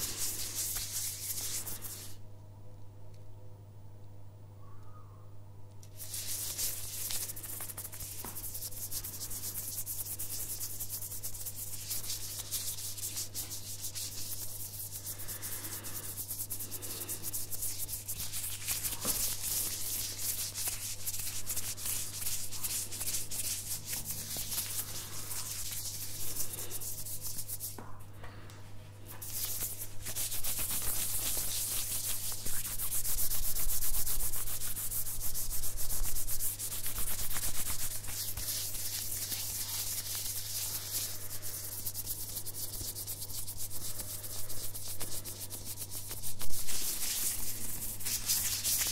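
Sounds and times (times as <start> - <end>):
plastic gloved hands rustling: 0.0 - 2.2, 5.9 - 27.8, 29.0 - 48.9
steady low hum: 0.0 - 48.9.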